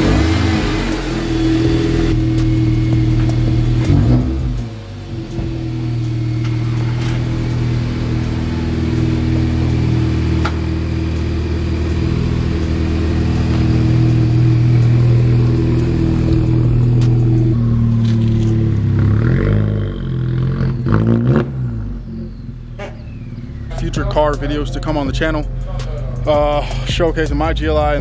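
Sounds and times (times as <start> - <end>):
car engine running at low revs: 0.0 - 28.0.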